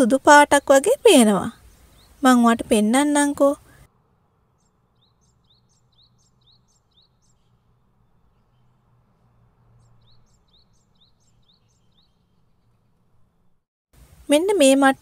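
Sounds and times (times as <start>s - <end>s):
faint bird chirping: 0.0s - 13.6s.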